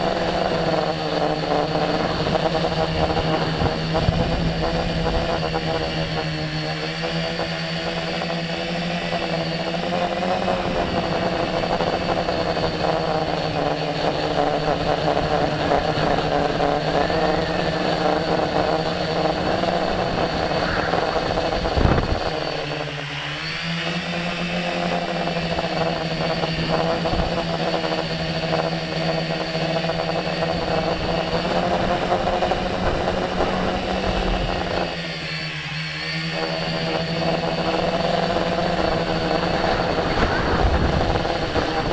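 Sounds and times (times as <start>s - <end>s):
drone motors and propellers whirring: 0.0s - 41.9s.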